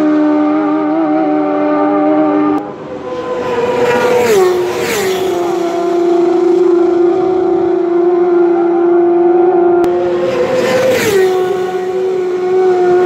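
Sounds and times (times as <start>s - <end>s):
superbike engine at high revs: 0.0s - 13.0s.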